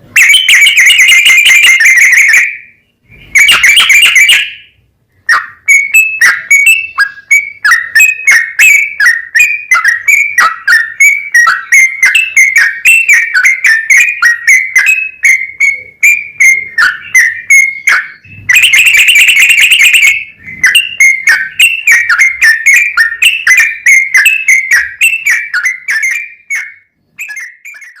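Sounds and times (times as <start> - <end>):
bird singing whistled notes: 0.1 - 28.0.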